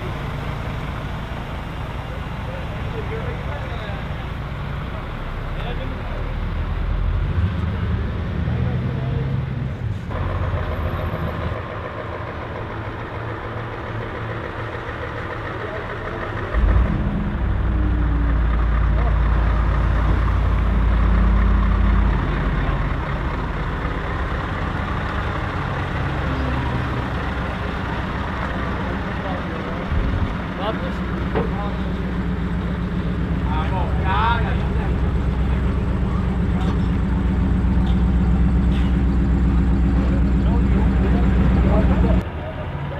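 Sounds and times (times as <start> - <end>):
heavy truck engines running: 0.0 - 42.9.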